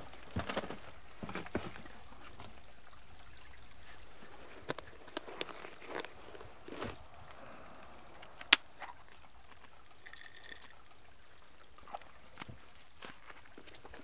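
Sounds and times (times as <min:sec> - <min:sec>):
trickle of running water: 0:00.0 - 0:14.0.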